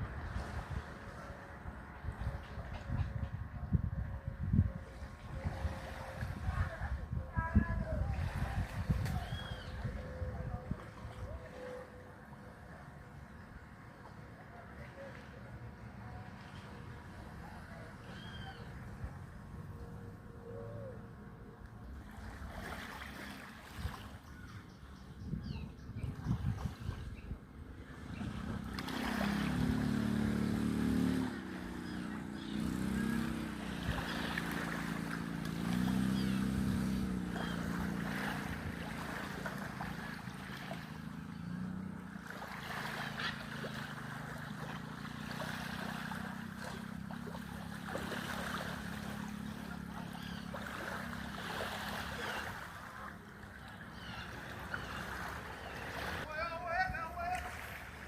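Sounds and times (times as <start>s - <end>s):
water splashing and gurgling: 0.0s - 20.4s, 21.2s - 25.0s, 26.0s - 58.0s.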